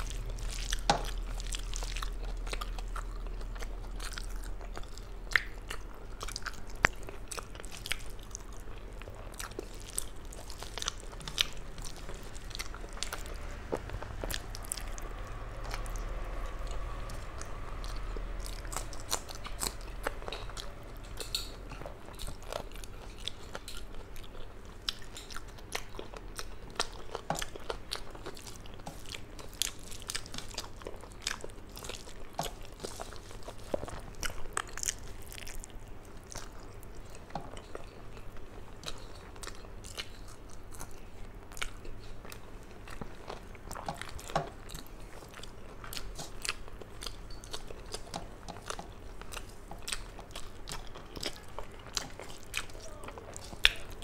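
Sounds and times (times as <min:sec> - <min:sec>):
woman chewing with mouth clicks: 0:00.0 - 0:54.0.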